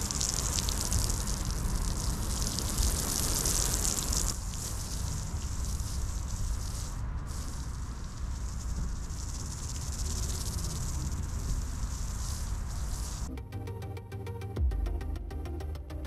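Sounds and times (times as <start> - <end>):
hose water spraying onto sand: 0.0 - 13.3.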